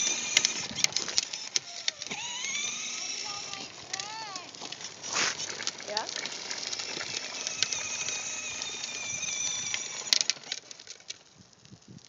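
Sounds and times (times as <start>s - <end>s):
electric motor whining: 0.0s - 11.2s
plastic wheels on asphalt: 0.0s - 12.0s.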